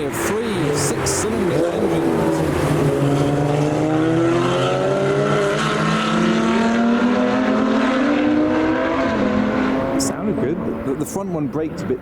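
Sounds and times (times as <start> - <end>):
car engines accelerating: 0.0 - 12.0.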